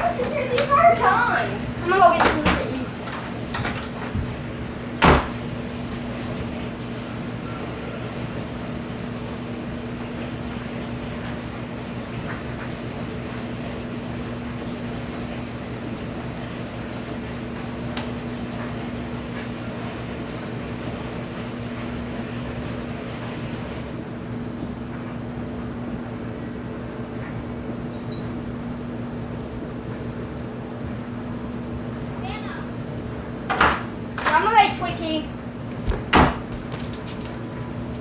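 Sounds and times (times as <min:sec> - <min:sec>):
machine hum with low drone: 0:00.0 - 0:38.0.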